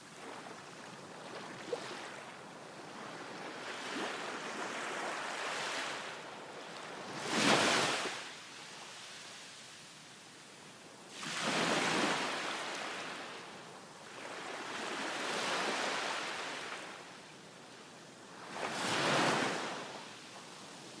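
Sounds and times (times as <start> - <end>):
ocean waves breaking on beach: 0.0 - 9.3, 11.0 - 21.0.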